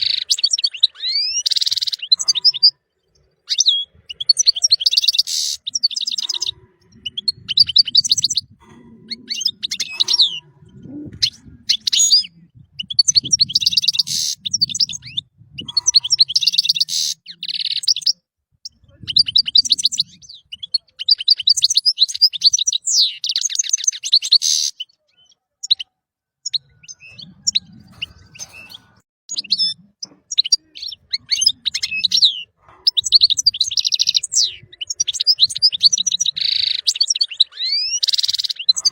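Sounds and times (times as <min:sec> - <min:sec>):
goldfinch singing: 0:00.0 - 0:38.9.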